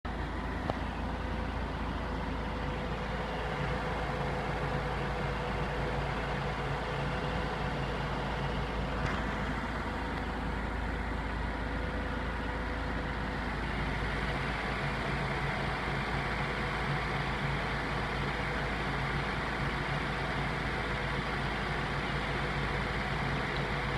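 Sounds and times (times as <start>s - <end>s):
car engine running steadily: 0.0s - 23.9s.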